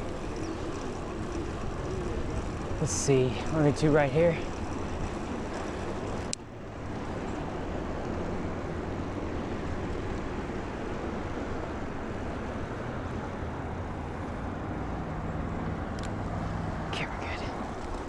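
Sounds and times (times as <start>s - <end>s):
bicycle road noise: 0.0s - 18.0s.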